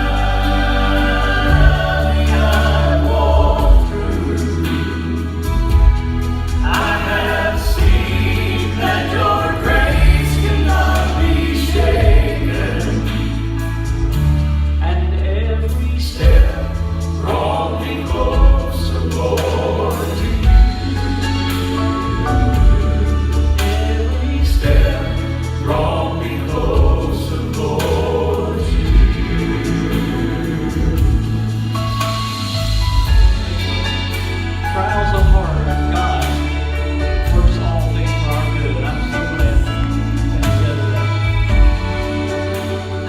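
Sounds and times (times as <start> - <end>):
bass line and beat: 0.0 - 14.7, 16.2 - 38.5
vocal quartet singing in harmony: 0.0 - 43.0.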